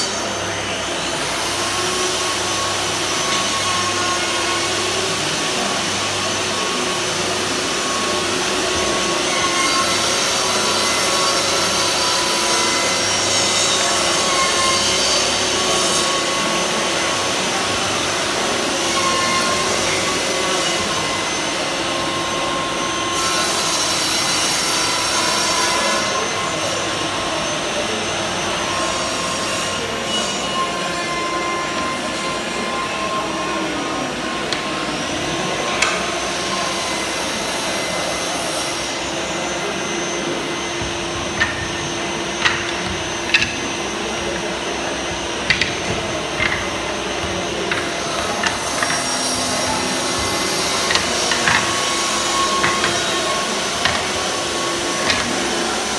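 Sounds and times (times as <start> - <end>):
dust extractors and power saws whirring: 0.0 - 55.9.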